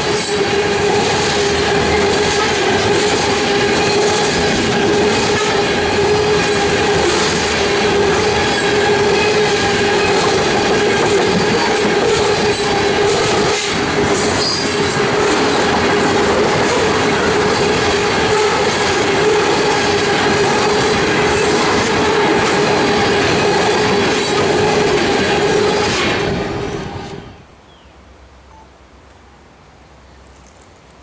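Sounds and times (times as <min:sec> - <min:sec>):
freight train cars clattering: 0:00.0 - 0:27.1.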